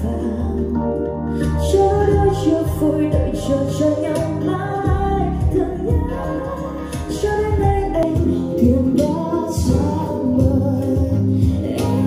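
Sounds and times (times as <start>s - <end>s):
song with female singing on speaker: 0.0s - 12.0s.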